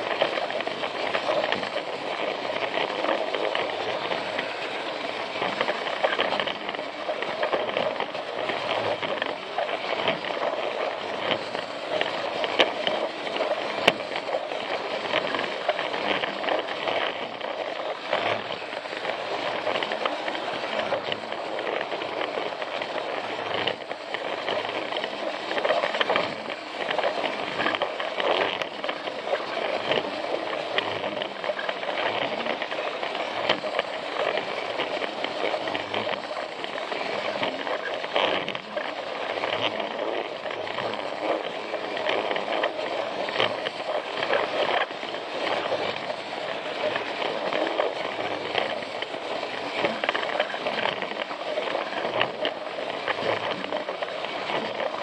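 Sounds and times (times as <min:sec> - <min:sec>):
small clicks and rattles: 0:00.0 - 0:55.0
toy train motor whirring: 0:00.0 - 0:55.0.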